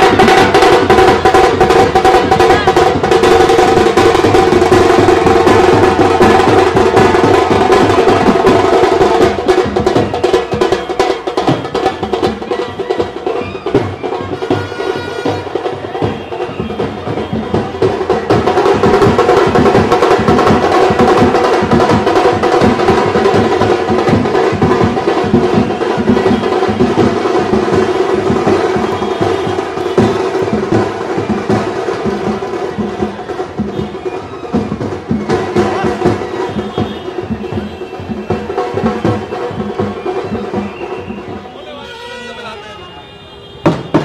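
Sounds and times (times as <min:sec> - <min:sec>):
fast steady drumming: 0:00.0 - 0:42.8, 0:43.5 - 0:44.0
festive band music: 0:00.0 - 0:44.0.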